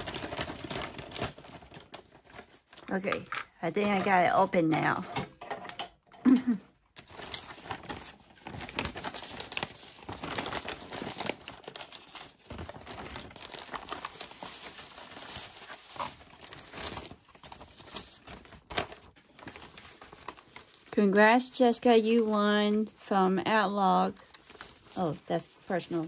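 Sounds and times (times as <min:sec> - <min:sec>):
plastic packaging crinkling: 0:00.0 - 0:04.6, 0:06.9 - 0:26.0.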